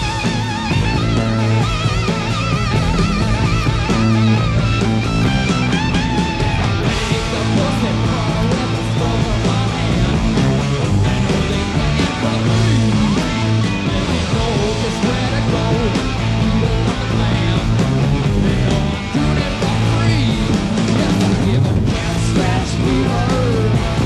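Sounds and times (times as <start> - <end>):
bass: 0.0 - 24.0
distorted electric guitar: 0.0 - 24.0
drums: 0.0 - 24.0.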